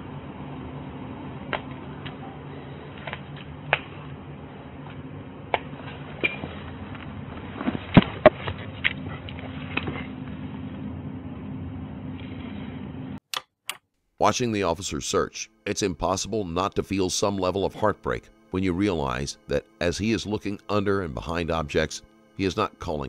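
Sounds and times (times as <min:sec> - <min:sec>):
steady low hum: 0:00.0 - 0:13.2, 0:14.1 - 0:23.0.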